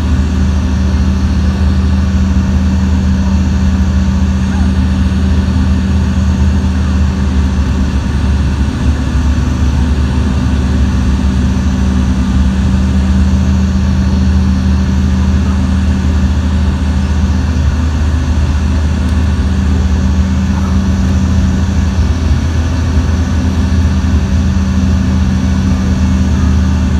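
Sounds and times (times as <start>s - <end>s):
airliner engines droning: 0.0s - 26.9s.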